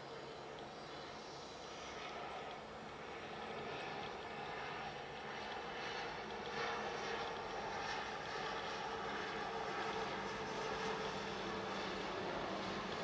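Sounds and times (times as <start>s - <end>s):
jet engines droning overhead: 0.0s - 13.0s.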